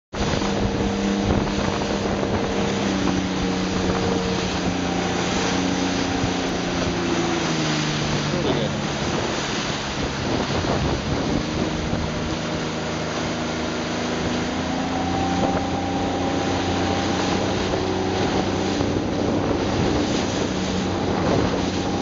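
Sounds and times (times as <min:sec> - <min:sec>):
motorboat engine hum: 0:00.1 - 0:22.0
rushing water: 0:00.1 - 0:22.0
wind buffeting microphone: 0:00.1 - 0:22.0.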